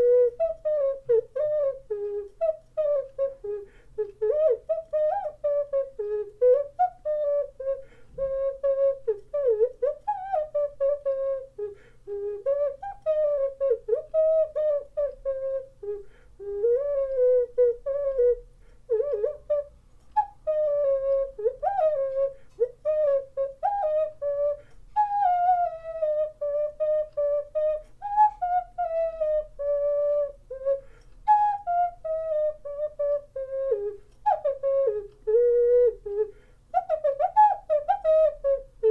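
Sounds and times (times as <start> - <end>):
ocarina melody: 0.0 - 38.9.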